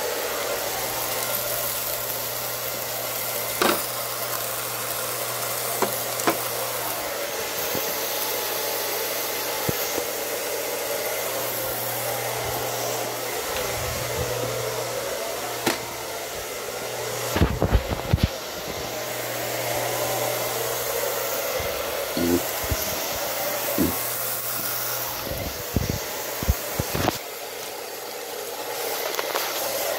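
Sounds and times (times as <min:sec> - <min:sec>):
motor blower whirring: 0:00.0 - 0:29.9.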